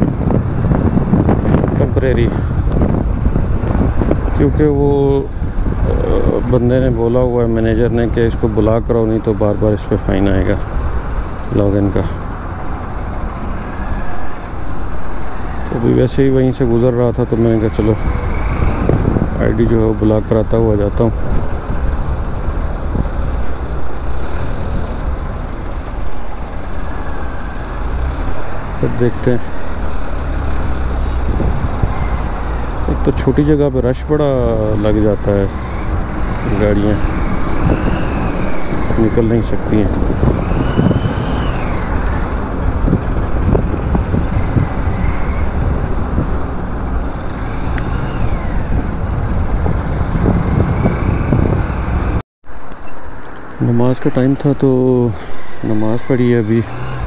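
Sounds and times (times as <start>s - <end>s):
vehicle road noise rumble: 0.0s - 57.0s.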